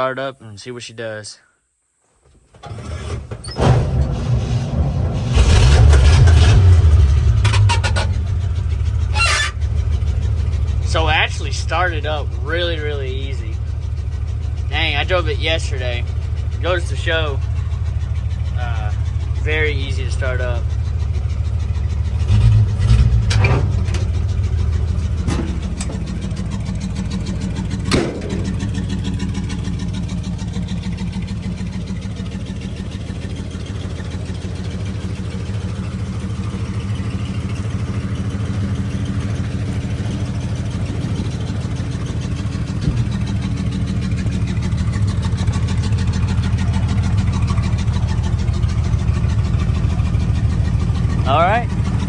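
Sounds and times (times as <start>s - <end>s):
pickup engine idling: 2.1s - 52.0s.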